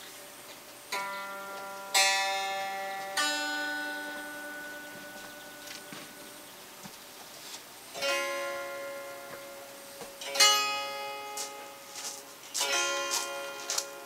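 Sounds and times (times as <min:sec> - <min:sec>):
guitar chords strummed: 0:00.9 - 0:06.9, 0:07.9 - 0:14.0.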